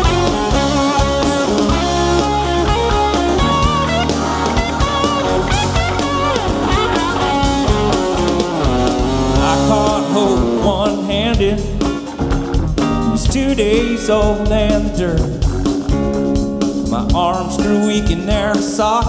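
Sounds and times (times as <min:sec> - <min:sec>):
lead guitar bending notes: 0:00.0 - 0:16.9
live rock band playing: 0:00.0 - 0:19.0.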